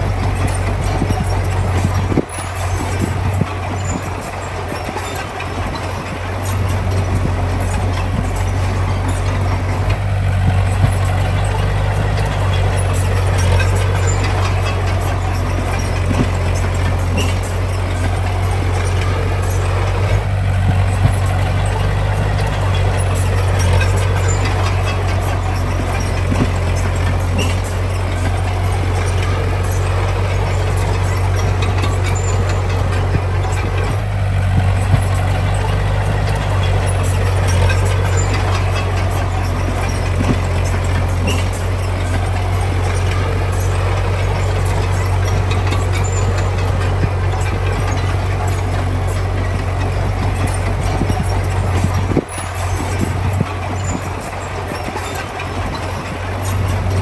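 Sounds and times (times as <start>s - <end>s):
heavy diesel machinery engine hum: 0.0s - 57.0s
short metallic clanks: 0.0s - 57.0s.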